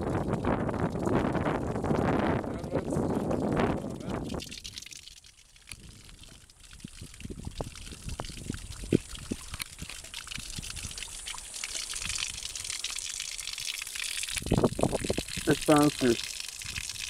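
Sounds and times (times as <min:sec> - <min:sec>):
creek running over rocks: 0:00.0 - 0:17.0.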